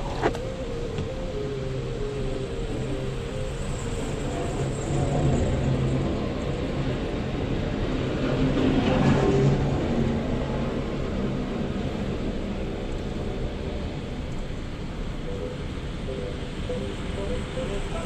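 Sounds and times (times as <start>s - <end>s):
road noise rushing: 0.0s - 18.0s
vehicle engine hum: 0.0s - 18.0s.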